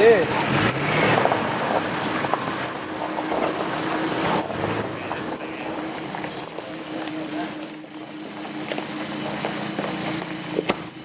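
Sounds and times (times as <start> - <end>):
off-road vehicle engine hum: 0.0 - 11.0.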